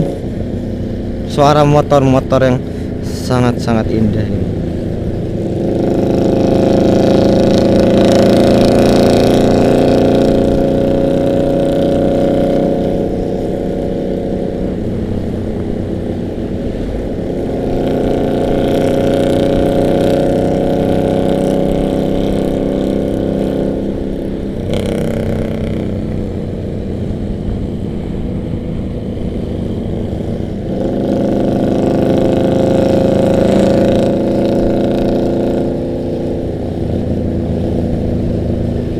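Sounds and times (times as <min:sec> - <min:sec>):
motorcycles cruising: 0:00.0 - 0:38.9.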